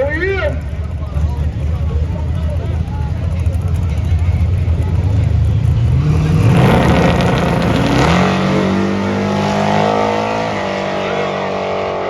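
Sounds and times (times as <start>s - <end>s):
car engine revving: 0.6s - 12.0s.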